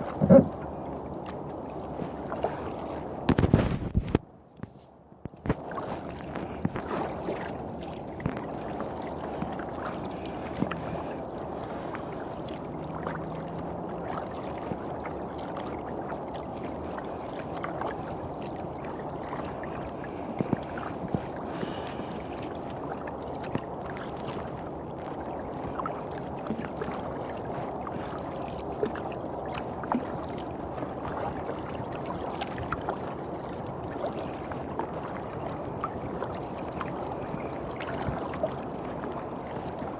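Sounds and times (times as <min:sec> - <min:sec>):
water splashing around a kayak: 0:00.0 - 0:39.9.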